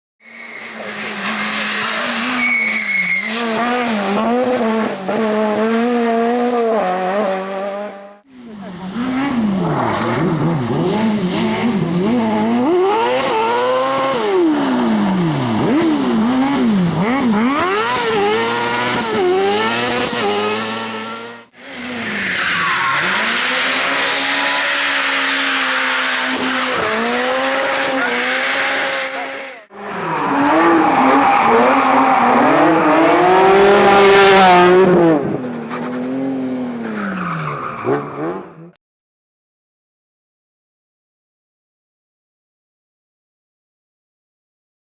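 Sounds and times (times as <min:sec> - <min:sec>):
race car engine revving: 0:00.7 - 0:36.8.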